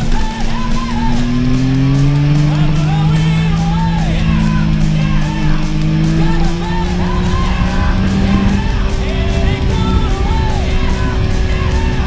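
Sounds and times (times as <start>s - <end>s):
low drone rising in pitch: 0.0s - 12.0s
rock music with singing: 0.0s - 12.0s.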